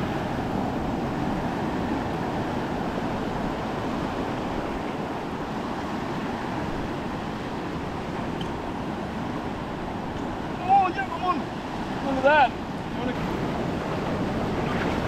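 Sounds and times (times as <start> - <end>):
surf washing over reef: 0.0 - 15.0
wind on microphone: 0.0 - 15.0.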